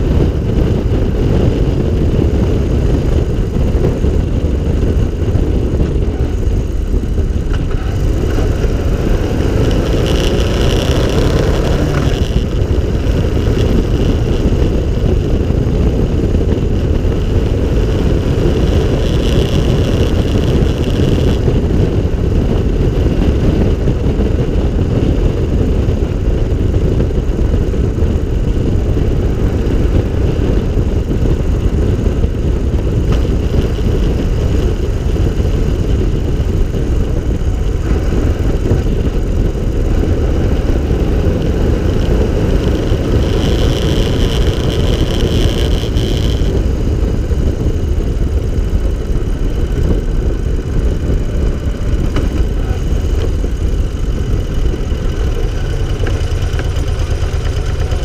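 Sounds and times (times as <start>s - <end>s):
small car engine running: 0.0s - 58.0s
wind and road noise: 0.0s - 58.0s.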